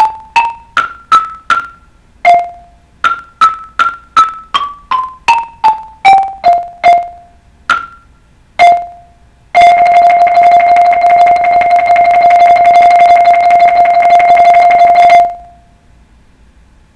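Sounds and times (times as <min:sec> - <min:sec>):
mallet keyboard struck notes: 0:00.0 - 0:15.6.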